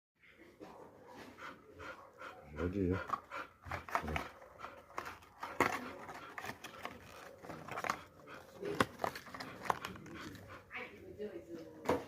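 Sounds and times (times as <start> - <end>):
dog panting and snuffling: 0.4 - 11.4.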